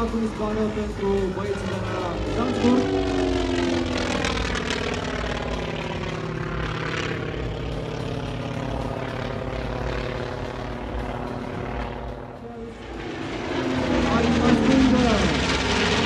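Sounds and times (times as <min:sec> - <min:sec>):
propeller plane engine at high power: 0:00.0 - 0:16.0.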